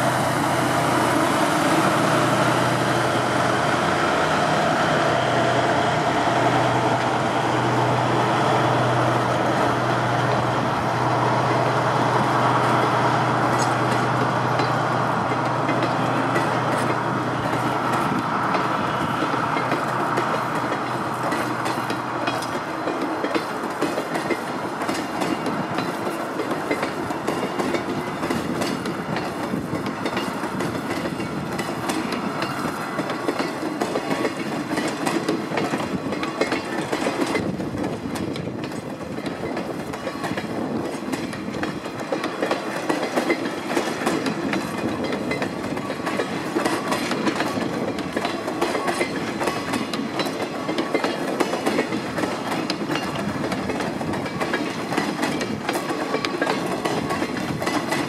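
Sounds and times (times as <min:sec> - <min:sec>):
diesel locomotive hum: 0:00.0 - 0:58.0
freight train wheels clacking: 0:00.0 - 0:58.0.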